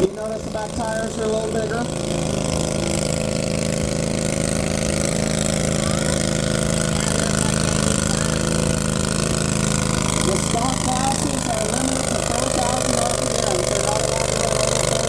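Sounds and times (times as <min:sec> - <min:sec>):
garden tractor engine running: 0:00.0 - 0:15.0.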